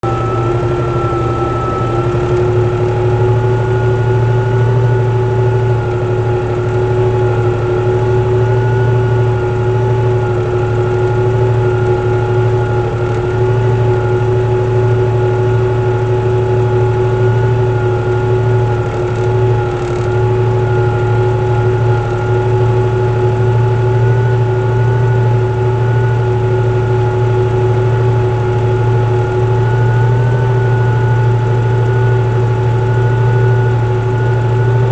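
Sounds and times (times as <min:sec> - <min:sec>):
tractor engine droning: 0:00.0 - 0:34.9.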